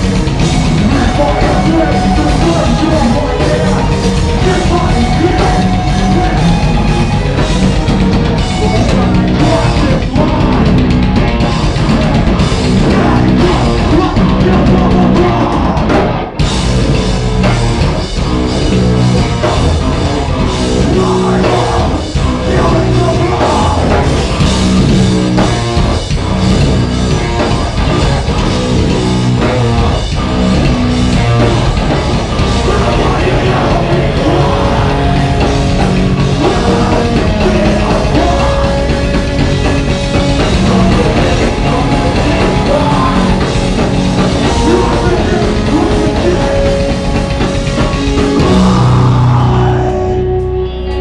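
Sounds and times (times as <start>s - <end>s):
heavy metal band playing: 0.0s - 51.0s.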